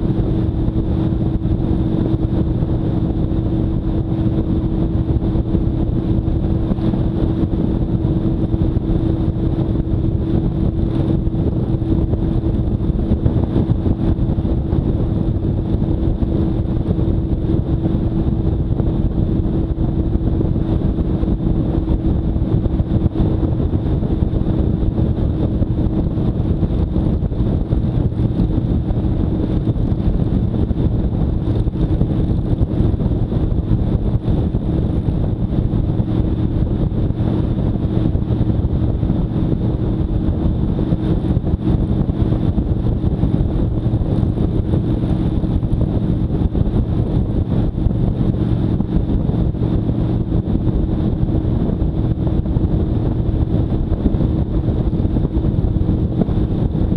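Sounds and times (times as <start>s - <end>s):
motorcycle engine running: 0.0s - 56.9s
road and wind rush: 0.0s - 56.9s.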